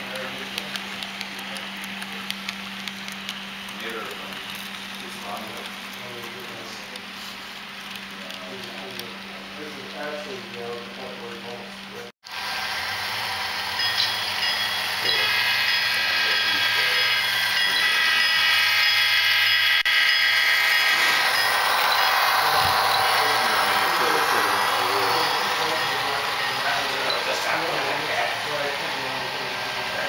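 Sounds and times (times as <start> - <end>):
model train wheels rushing on track: 0.0 - 7.1, 7.8 - 11.2, 12.3 - 30.0
model locomotive whine: 0.0 - 30.0.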